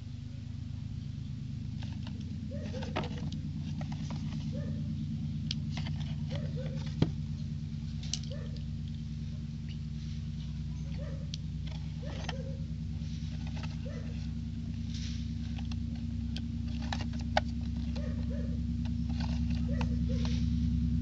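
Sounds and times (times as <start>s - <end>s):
steady low hum: 0.0s - 21.0s
fingers handling cardboard box: 1.7s - 4.9s, 5.5s - 20.6s.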